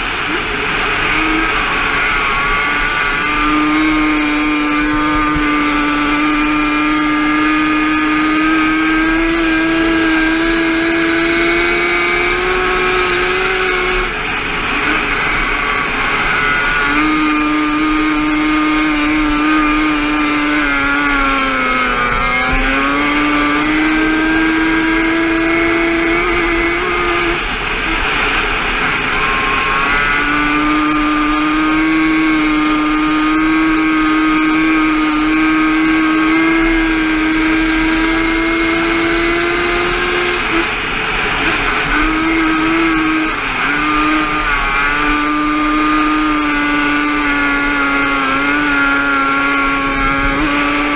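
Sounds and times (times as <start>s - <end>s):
two-stroke quad engine revving: 0.0s - 50.9s.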